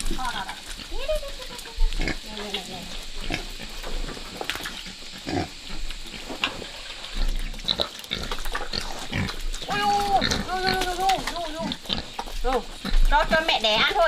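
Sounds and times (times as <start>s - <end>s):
pigs grunting: 0.0s - 14.0s.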